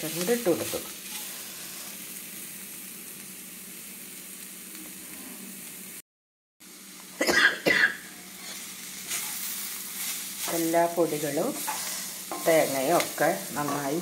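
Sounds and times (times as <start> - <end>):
masala sizzling in a pan: 0.0 - 6.0, 6.6 - 14.0.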